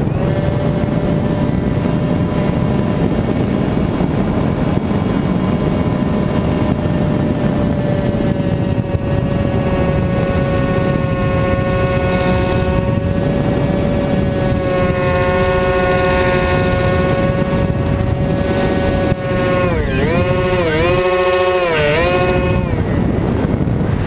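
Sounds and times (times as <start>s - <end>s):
model airplane motor and propeller: 0.0s - 24.0s
wind rush on microphone: 0.0s - 24.0s.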